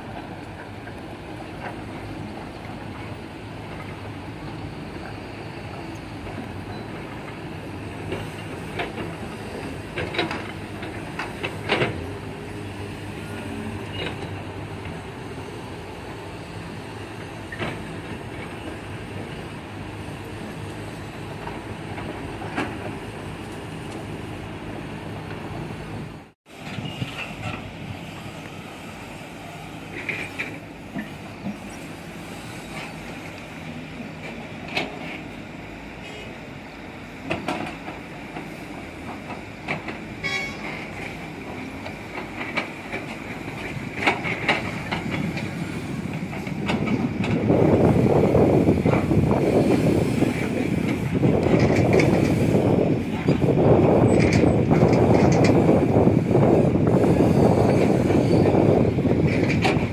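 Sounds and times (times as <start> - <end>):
excavator diesel engines running: 0.0 - 59.9.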